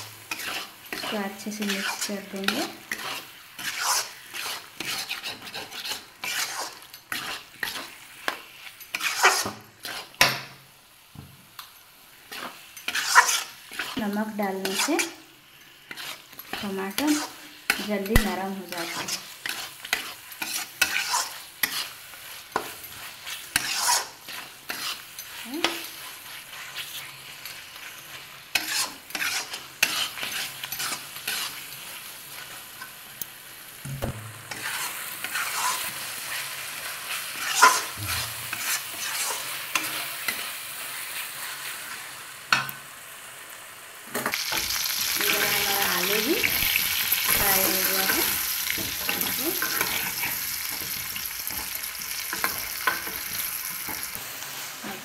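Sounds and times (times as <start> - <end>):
metal spatula scraping pan: 0.0 - 10.3, 12.3 - 15.2, 15.8 - 32.9, 34.3 - 40.5, 44.2 - 54.1
light sizzle: 0.0 - 55.0
potatoes frying in oil: 0.0 - 55.0.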